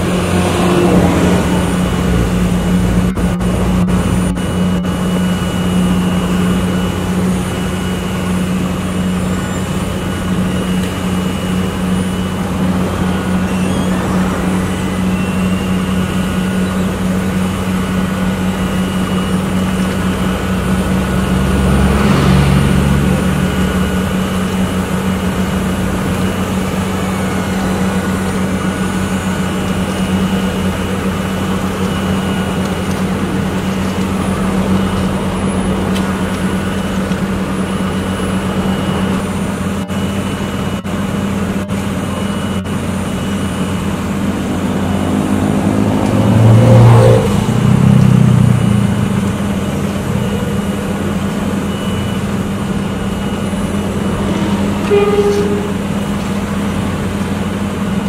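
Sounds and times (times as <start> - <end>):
diesel engine humming: 0.0 - 58.0
louder engine sound shifting pitch: 0.0 - 58.0.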